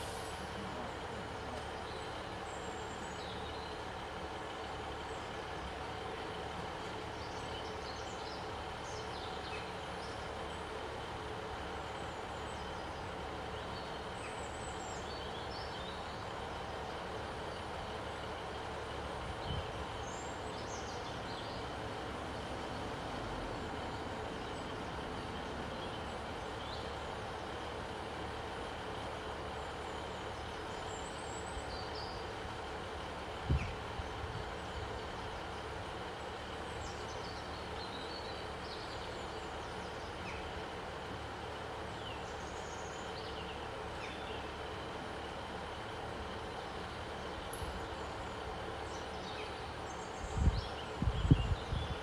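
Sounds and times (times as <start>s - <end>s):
diesel train engines idling: 0.0s - 52.0s
birds chirping: 0.4s - 52.0s.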